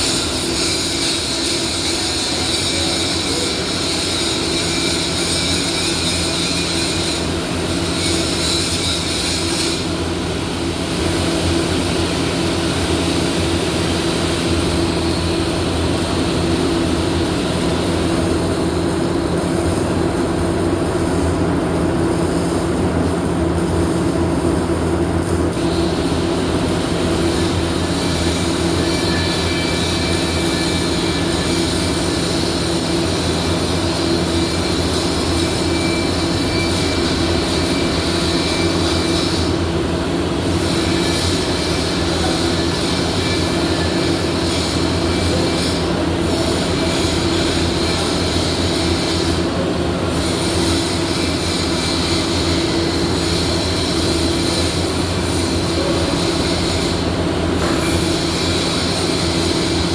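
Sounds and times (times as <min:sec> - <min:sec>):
welding hiss: 0:00.0 - 0:59.9.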